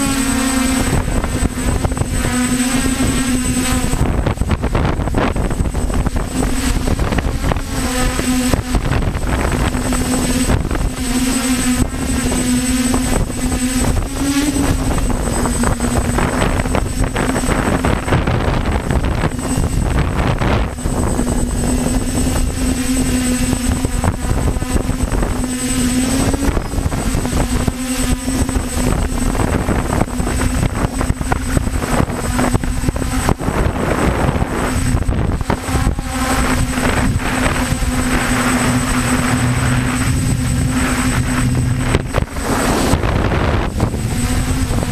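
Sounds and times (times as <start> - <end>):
drone motors humming: 0.0 - 44.9
wind buffeting microphone: 0.0 - 44.9.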